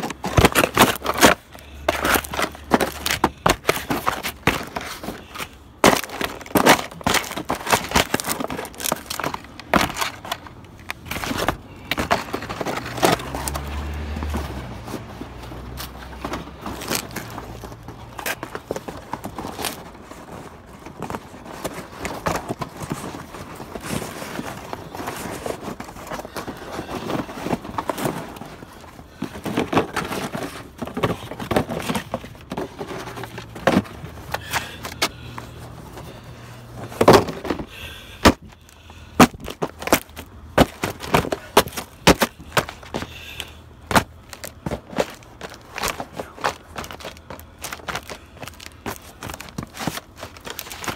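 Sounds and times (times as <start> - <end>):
cardboard boxes crunching and cracking: 0.0 - 50.9
cardboard crumpling and rustling: 0.0 - 50.9.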